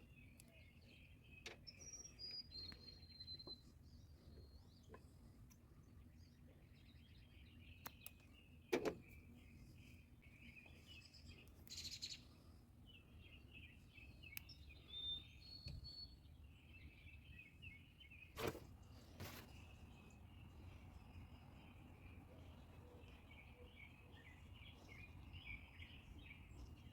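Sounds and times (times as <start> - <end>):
faint bird chirping: 0.0 - 26.9.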